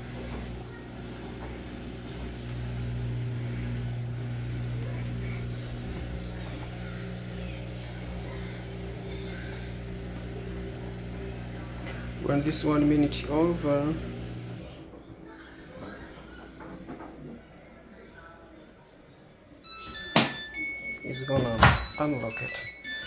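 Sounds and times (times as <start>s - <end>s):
washing machine spin hum: 0.0s - 17.7s, 19.6s - 23.0s.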